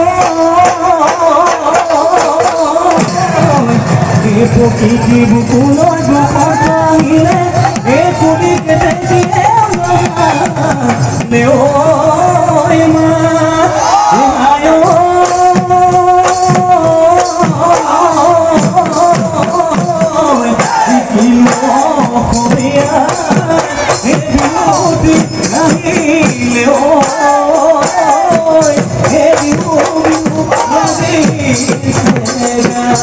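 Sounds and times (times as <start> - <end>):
jingling percussion: 0.0 - 13.6, 14.7 - 33.0
drums beating driving rhythm: 0.0 - 33.0
man singing into a microphone: 0.0 - 33.0.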